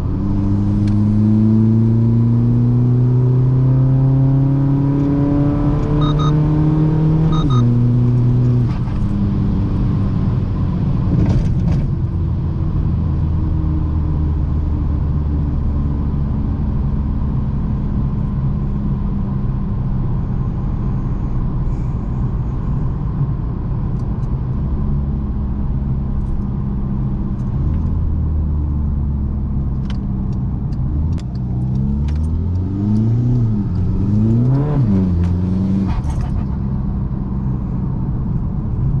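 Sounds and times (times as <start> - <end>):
diesel car engine running: 0.0 - 39.0.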